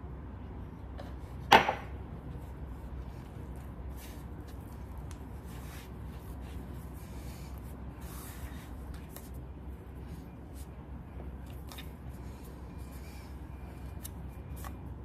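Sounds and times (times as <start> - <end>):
steady low hum: 0.0 - 15.0
hands kneading dough on wood: 0.9 - 15.0.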